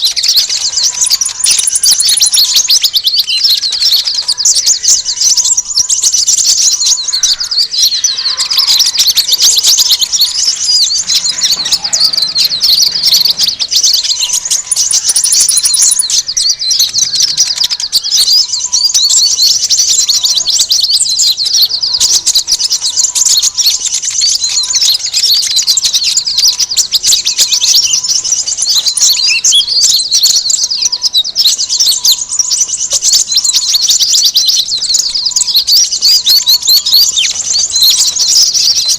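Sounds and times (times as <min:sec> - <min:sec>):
flock of small birds chirping: 0:00.0 - 0:38.9.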